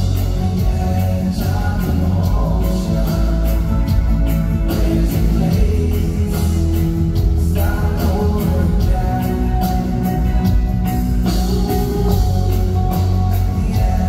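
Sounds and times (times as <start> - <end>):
live reggae band playing: 0.0 - 14.0.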